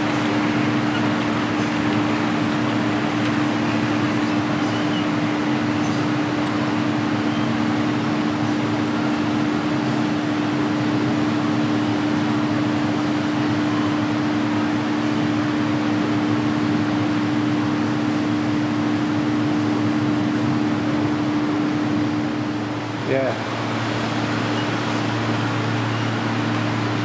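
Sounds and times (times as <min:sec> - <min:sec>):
low two-tone hum: 0:00.0 - 0:27.0.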